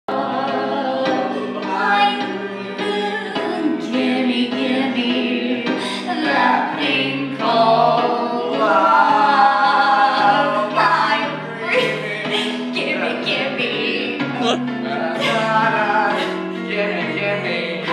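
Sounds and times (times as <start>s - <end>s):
instrumental accompaniment: 0.1s - 17.9s
voices singing together: 0.1s - 17.9s.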